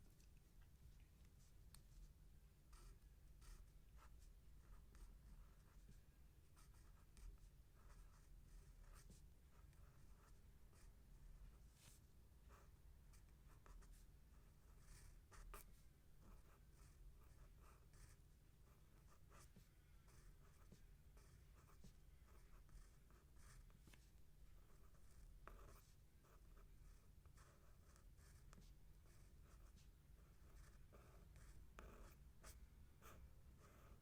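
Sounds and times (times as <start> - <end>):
pen scratching on a surface: 2.7 - 6.0, 6.6 - 12.6, 13.2 - 34.0.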